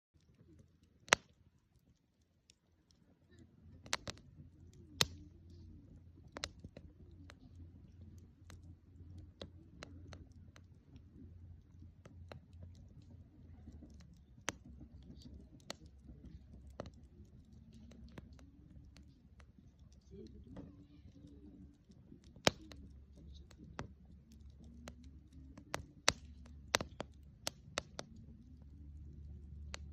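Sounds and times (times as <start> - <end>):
low rumble of fire: 0.2 - 29.9
wood fire crackling: 0.2 - 29.9.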